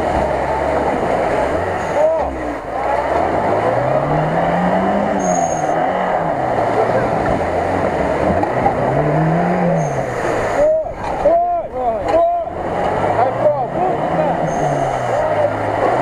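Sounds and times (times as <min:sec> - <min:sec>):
car engine revving: 0:00.0 - 0:16.0
wheels churning in mud: 0:00.0 - 0:16.0.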